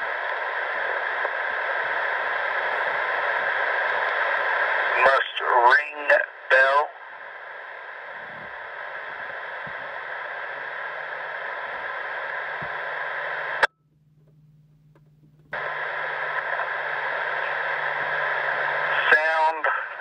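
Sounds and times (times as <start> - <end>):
radio scanner static hiss: 0.0 - 20.0.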